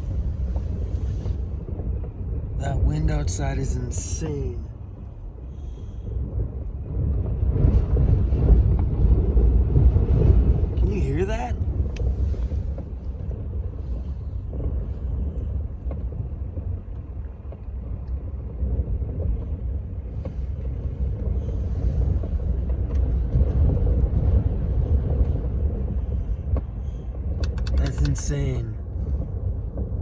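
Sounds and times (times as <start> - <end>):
wind gusts buffeting a van: 0.0 - 27.7, 28.8 - 30.0.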